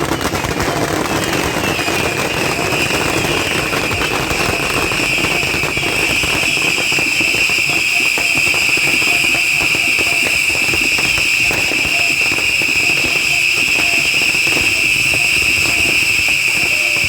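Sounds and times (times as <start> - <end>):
rockets crackling: 0.0 - 17.0
high-pitched whistle: 0.1 - 17.0.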